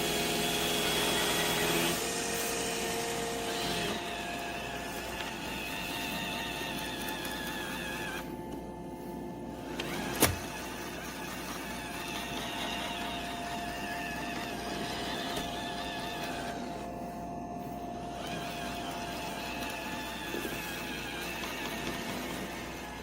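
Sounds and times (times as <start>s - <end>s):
robot vacuum whirring: 0.0s - 23.0s.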